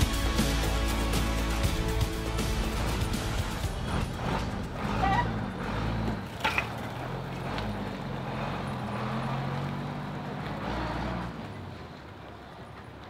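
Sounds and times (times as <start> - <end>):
truck engine low hum: 0.0 - 13.0.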